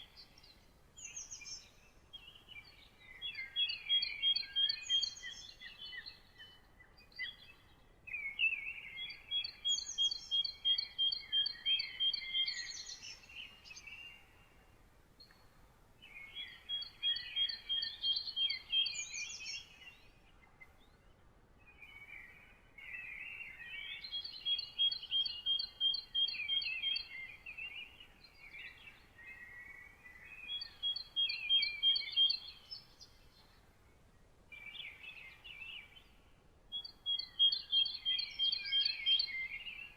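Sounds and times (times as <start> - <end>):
songbird singing trills: 0.0 - 39.9.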